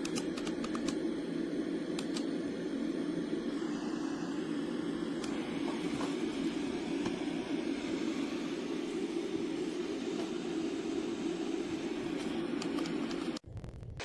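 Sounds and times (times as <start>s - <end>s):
steady white noise from speaker: 0.0s - 13.4s.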